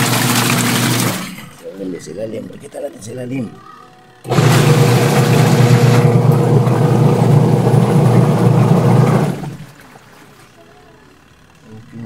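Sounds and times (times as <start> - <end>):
washing machine motor running: 0.0 - 12.0.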